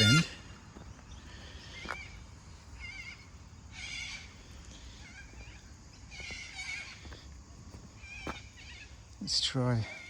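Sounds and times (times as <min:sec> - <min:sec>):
birds warbling calls: 0:00.0 - 0:10.0.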